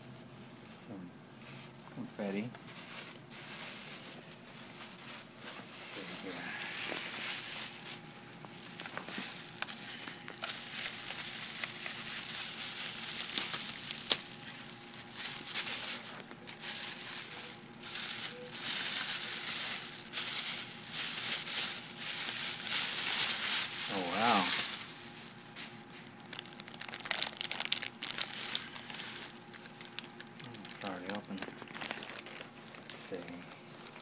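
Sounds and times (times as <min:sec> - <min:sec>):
plastic bags crinkling: 0:00.1 - 0:34.0.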